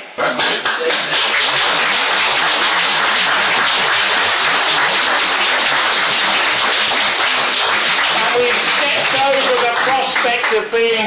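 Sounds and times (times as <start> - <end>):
audience applauding: 0.2 - 10.7.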